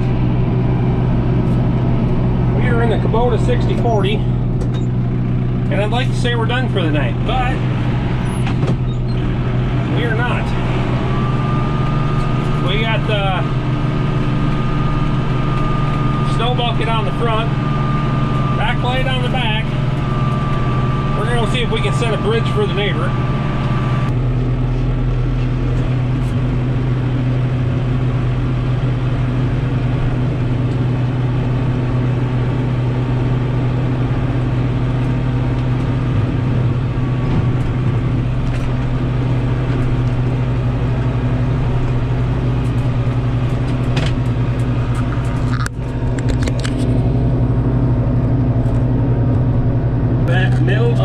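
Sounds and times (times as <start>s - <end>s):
tractor diesel engine droning: 0.0s - 51.0s.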